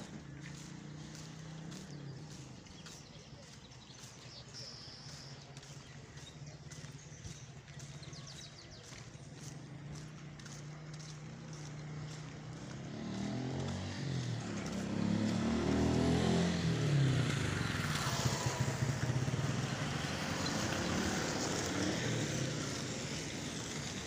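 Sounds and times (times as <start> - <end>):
vehicle engine passing: 0.0 - 24.0.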